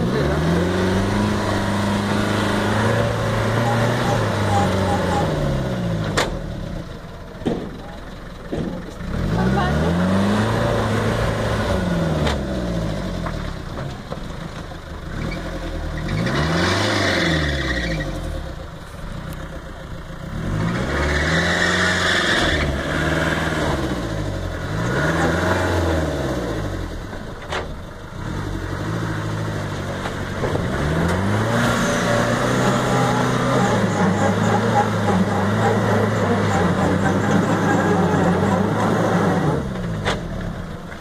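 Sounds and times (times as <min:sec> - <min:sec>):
engine revving: 0:00.0 - 0:07.0, 0:08.5 - 0:13.9, 0:15.0 - 0:18.6, 0:20.2 - 0:41.0.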